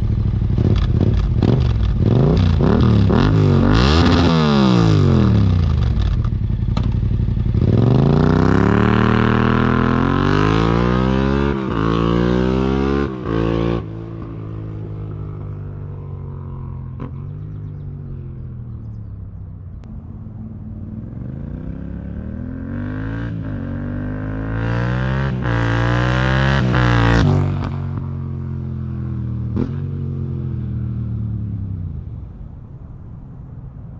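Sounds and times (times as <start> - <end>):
motorcycle engine revving: 0.0 - 32.1.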